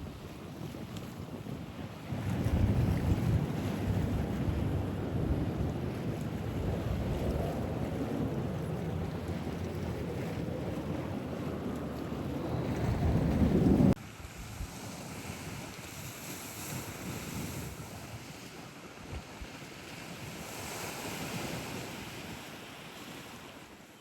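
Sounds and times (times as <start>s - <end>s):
wind on microphone: 0.0s - 22.6s
water washing in swells: 0.0s - 23.8s.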